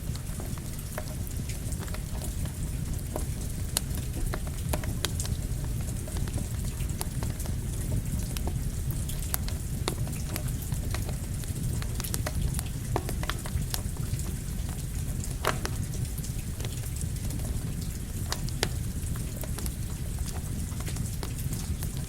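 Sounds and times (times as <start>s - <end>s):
crackling campfire: 0.0s - 22.0s
steady rain: 0.0s - 22.0s.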